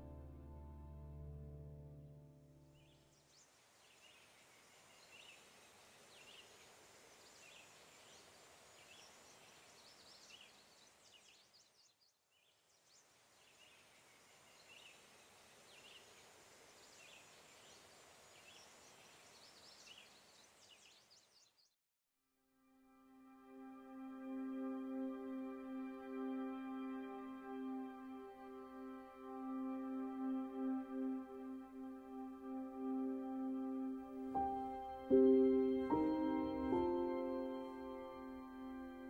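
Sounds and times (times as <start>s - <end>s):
faint outdoor hiss: 2.2s - 21.7s, 23.1s - 39.0s.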